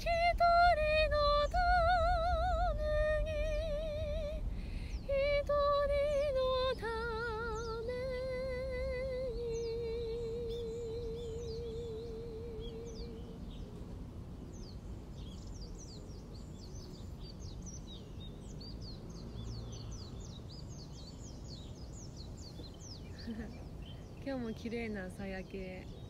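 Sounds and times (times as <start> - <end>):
birds chirping: 0.0 - 26.0
steady low rumble: 0.0 - 26.0.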